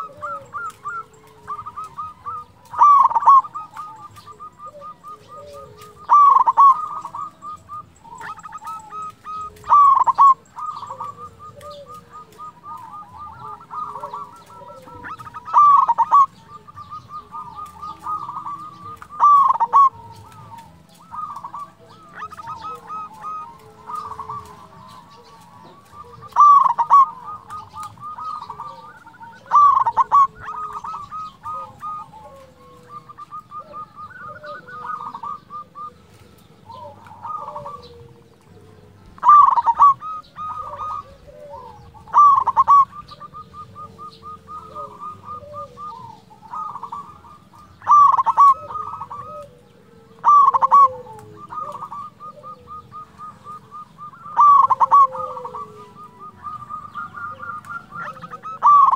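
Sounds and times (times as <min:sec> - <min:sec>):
dove cooing: 0:00.0 - 0:58.9
dove rolling trills: 0:00.0 - 0:58.9.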